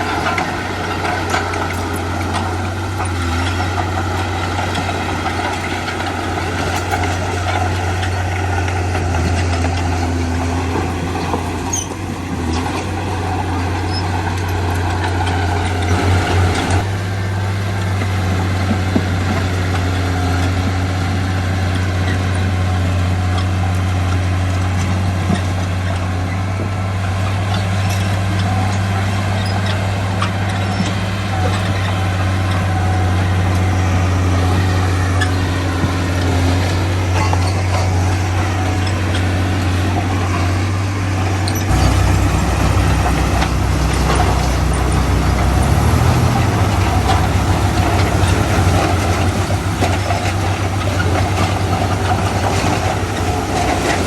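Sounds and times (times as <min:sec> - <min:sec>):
heavy diesel machinery engine: 0:00.0 - 0:54.0.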